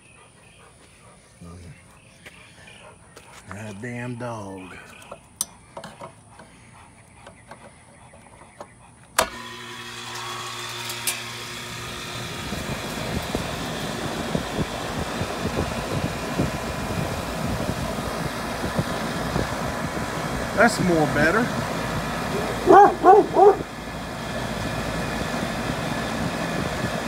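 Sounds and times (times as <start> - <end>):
compressor electrical hum: 0.0 - 27.0
condenser fan rushing: 3.6 - 27.0.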